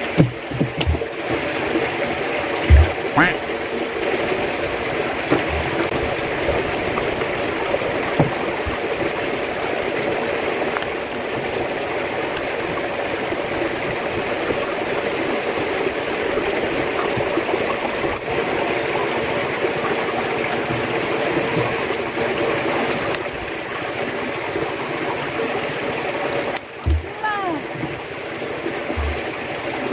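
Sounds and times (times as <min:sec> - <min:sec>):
flowing water rushing: 0:00.0 - 0:29.9.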